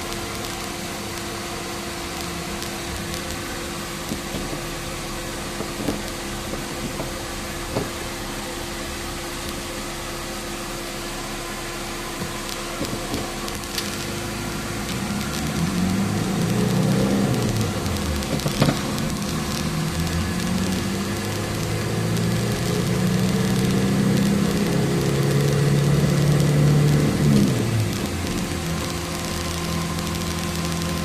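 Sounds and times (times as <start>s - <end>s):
heater blower fan running: 0.0s - 31.0s.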